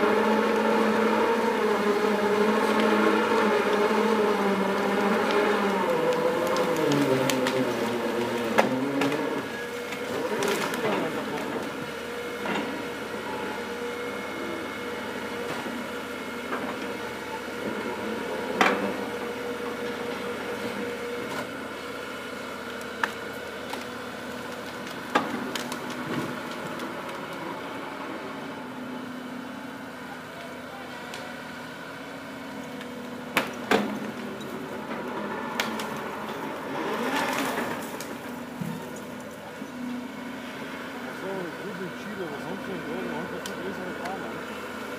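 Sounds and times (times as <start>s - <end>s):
cable yarder whining: 0.0s - 44.9s.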